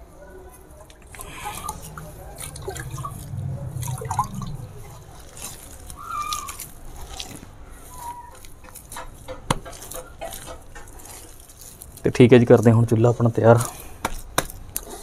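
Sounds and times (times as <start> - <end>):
hands squelching wet clay: 0.8 - 15.0.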